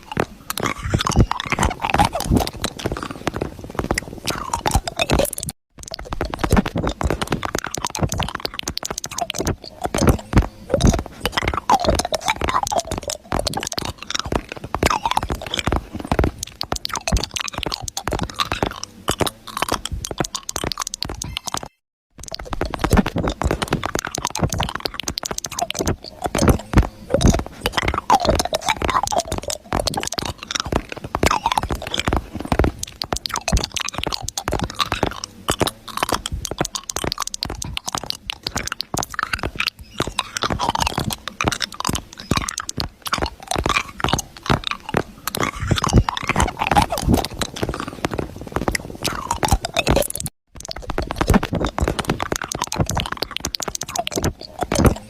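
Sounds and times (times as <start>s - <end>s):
crunching and crackling clicks: 0.0s - 55.0s.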